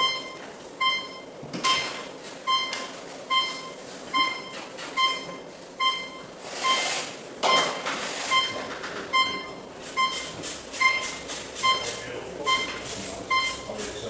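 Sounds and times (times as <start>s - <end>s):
short electronic beeps: 0.0s - 13.8s.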